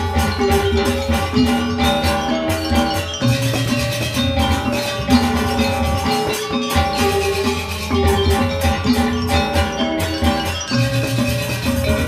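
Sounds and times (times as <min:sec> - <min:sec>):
hand drums: 0:00.0 - 0:12.0
metallophones ringing: 0:00.0 - 0:12.0.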